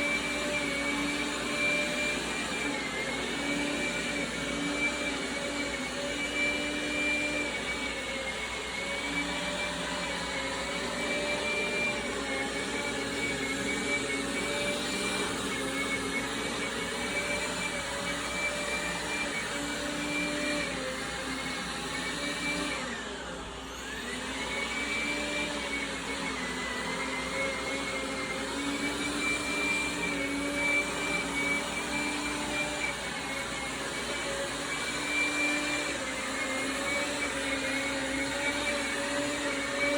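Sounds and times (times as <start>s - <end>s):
robot vacuum humming: 0.0s - 39.9s.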